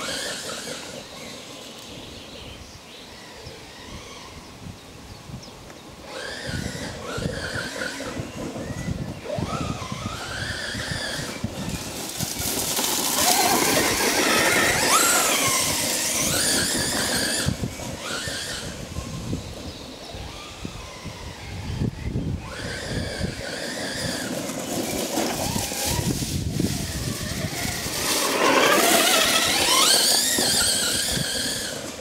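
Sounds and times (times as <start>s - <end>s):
rc car motor whine: 0.0s - 4.8s, 5.7s - 32.0s
tyre and ground noise: 5.6s - 32.0s.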